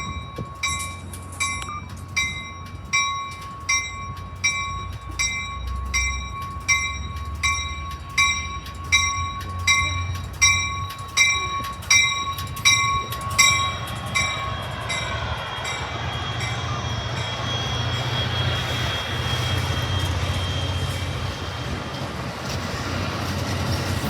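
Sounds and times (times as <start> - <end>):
railroad bell ringing: 0.0 - 24.0
train rumble: 0.0 - 24.0
train wheel hiss: 0.0 - 24.0.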